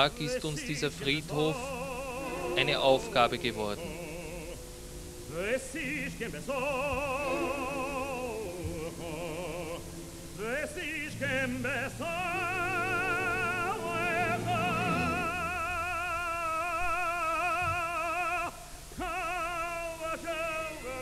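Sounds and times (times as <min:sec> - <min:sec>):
low held accompaniment: 0:00.0 - 0:18.0
person singing with vibrato: 0:00.0 - 0:21.0.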